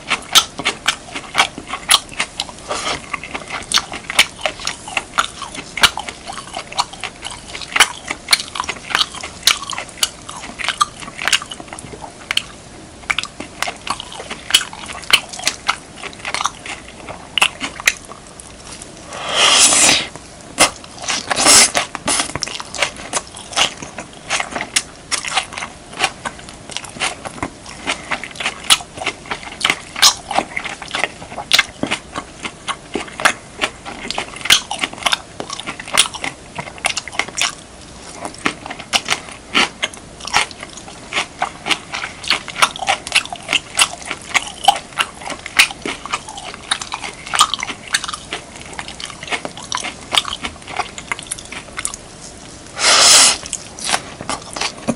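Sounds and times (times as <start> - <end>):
wet chewing sounds: 0.0 - 54.9.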